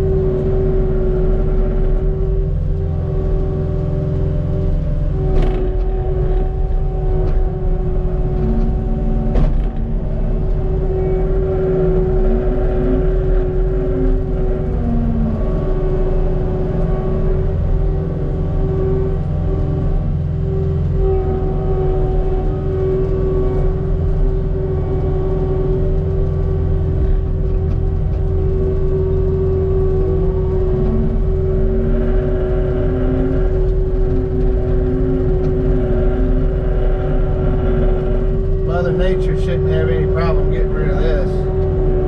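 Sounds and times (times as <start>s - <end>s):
diesel engine running under load: 0.0s - 42.0s
hydraulic whine: 0.0s - 42.0s.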